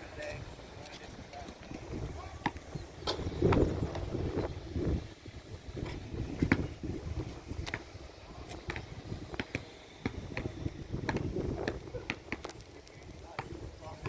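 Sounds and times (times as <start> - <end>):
footsteps on pavement: 0.7 - 4.3, 5.8 - 14.0.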